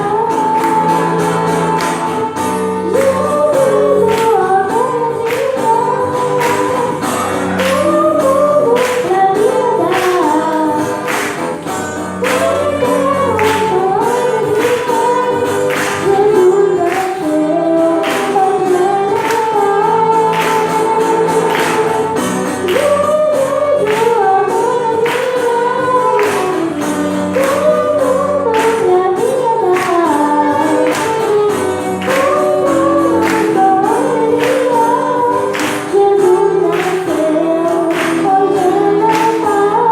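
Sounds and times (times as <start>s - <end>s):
singing with instrumental accompaniment: 0.0s - 39.9s.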